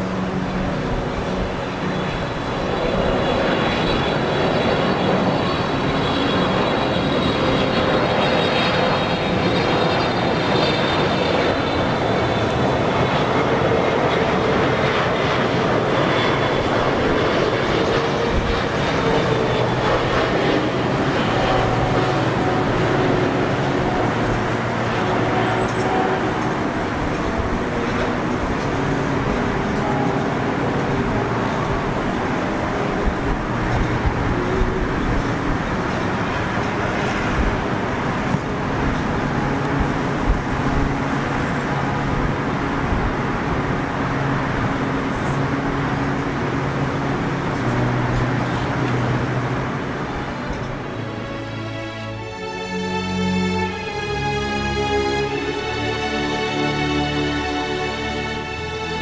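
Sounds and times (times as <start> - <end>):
jet engine rush with fan whine: 0.0 - 59.0.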